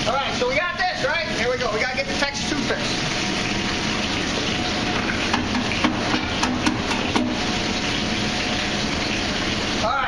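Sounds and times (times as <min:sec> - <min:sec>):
ventilation hood rushing: 0:00.0 - 0:10.0.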